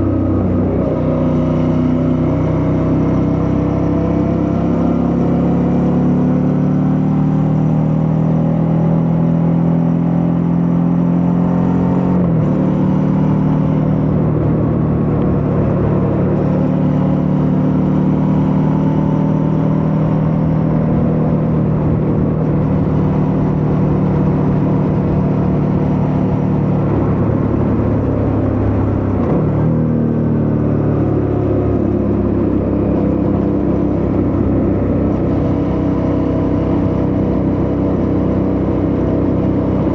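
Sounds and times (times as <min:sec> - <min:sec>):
motorcycle engine running: 0:00.0 - 0:11.3, 0:12.3 - 0:39.9.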